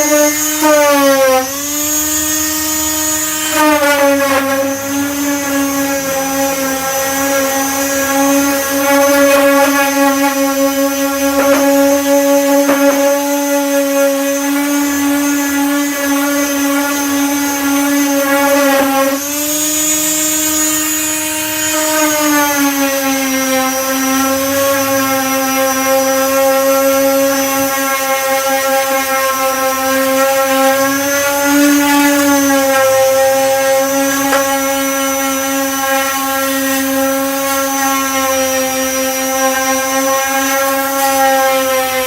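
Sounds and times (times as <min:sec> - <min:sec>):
disc sander motor whining: 0:00.0 - 0:42.0.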